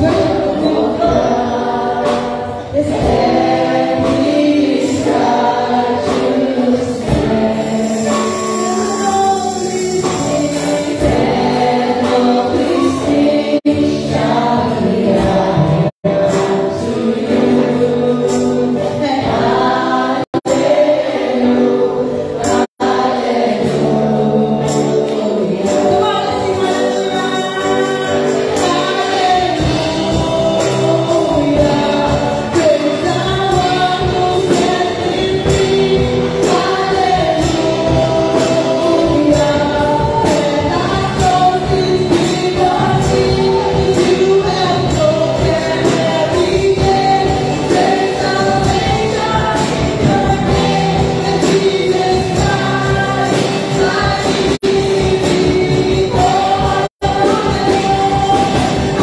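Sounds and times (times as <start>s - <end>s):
band with guitars and drums: 0.0s - 59.0s
voices singing along: 0.0s - 59.0s
woman singing lead: 0.0s - 59.0s.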